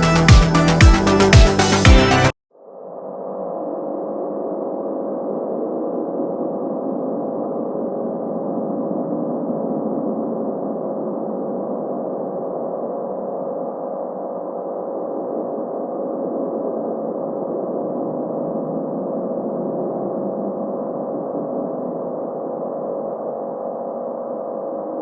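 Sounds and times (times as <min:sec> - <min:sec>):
grainy low hum: 0:00.0 - 0:25.0.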